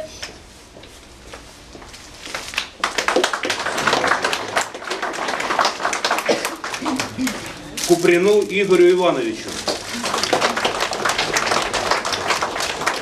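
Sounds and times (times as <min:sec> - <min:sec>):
room noise: 0:00.0 - 0:13.0
audience clapping: 0:02.3 - 0:13.0.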